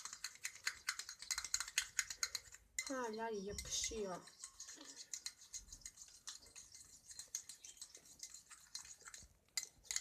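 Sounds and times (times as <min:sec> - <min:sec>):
slime squelching in a bowl: 0:00.0 - 0:10.0.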